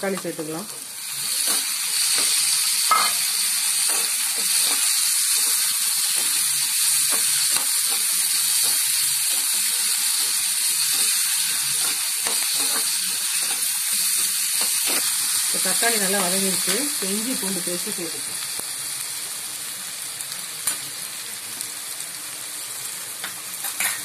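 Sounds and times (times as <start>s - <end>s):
tomatoes sizzling in hot oil: 0.0s - 24.0s.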